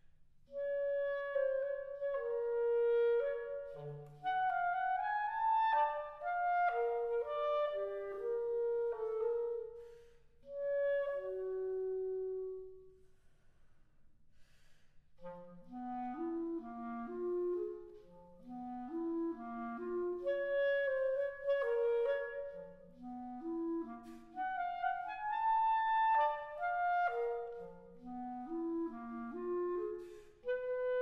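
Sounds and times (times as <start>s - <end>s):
clarinet playing: 0.5s - 12.9s, 15.2s - 31.0s.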